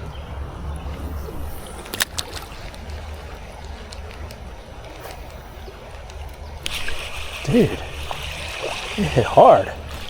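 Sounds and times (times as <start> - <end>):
creek water around canoe: 0.0 - 10.0
low steady rumble: 0.0 - 10.0.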